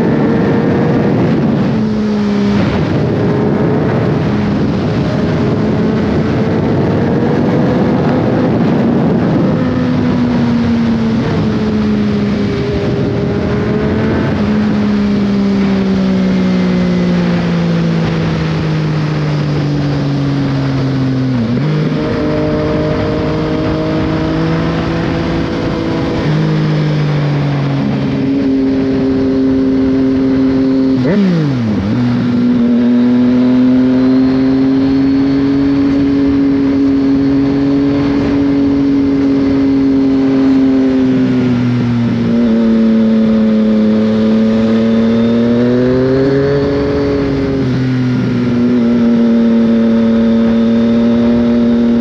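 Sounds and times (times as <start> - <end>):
motorcycle engine revving: 0.0 - 52.0
wind rushing: 0.0 - 52.0.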